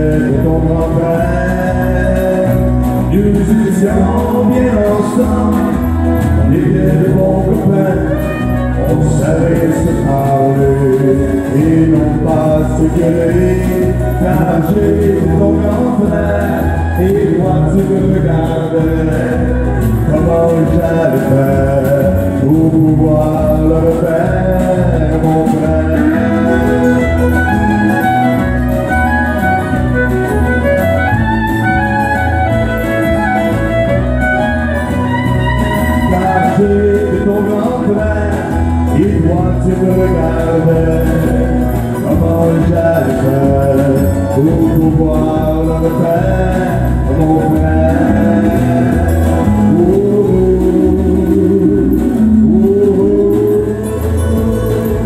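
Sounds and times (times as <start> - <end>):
fiddle melody: 0.0 - 52.5
drums: 0.0 - 55.0
man singing: 0.0 - 55.0
strummed acoustic guitars: 0.0 - 55.0.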